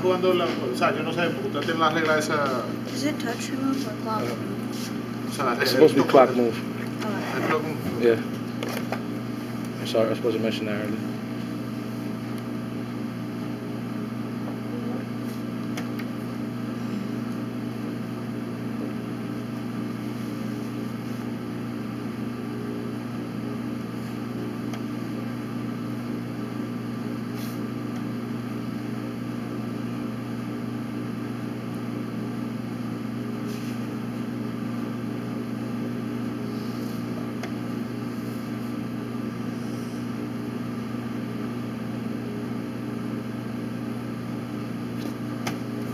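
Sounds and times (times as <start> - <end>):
ventilation room hum: 0.0 - 45.9.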